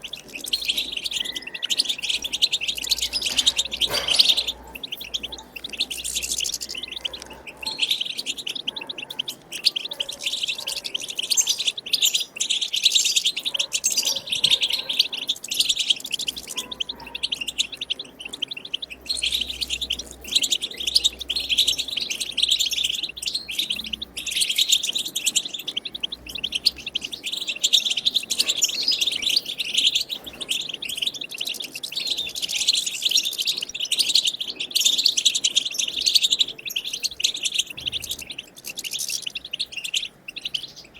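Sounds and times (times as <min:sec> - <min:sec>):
goldfinch twittering song: 0:00.0 - 0:40.9.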